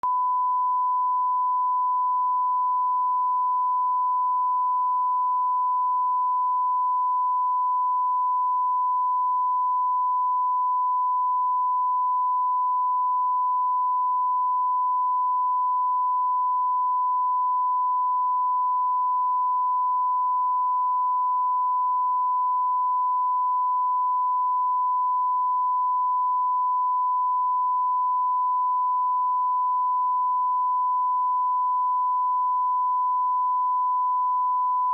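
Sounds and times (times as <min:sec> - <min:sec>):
sine wave test tone: 0:00.0 - 0:34.9.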